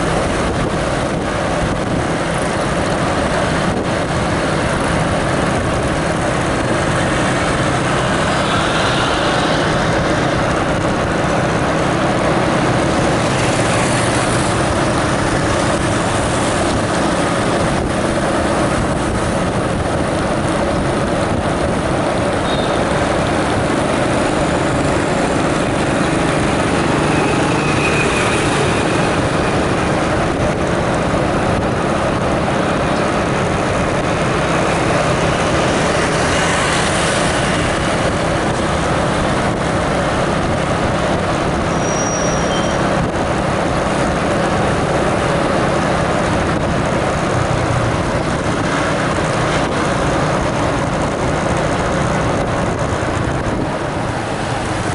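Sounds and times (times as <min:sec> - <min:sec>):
vehicle running: 0:00.0 - 0:54.9.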